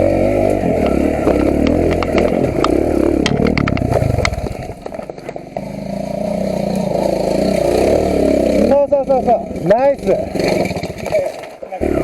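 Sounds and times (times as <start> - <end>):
rocks clicking under tyres: 0.0 - 7.8, 9.6 - 11.8
motorcycle engine revving: 0.0 - 12.0.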